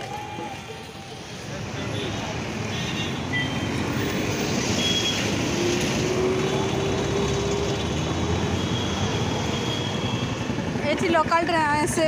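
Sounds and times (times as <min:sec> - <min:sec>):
buses passing close by: 0:00.0 - 0:12.0.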